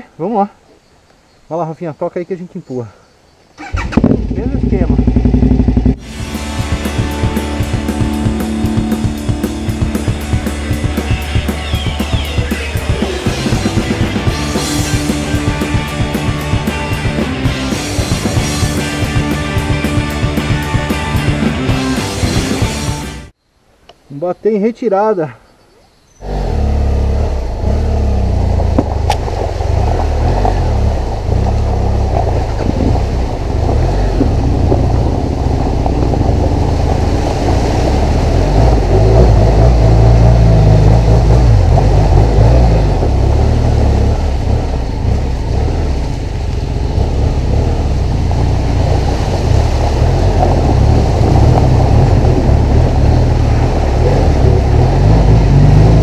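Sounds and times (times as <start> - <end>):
motorcycle engine running: 3.6 - 23.3, 26.2 - 56.0.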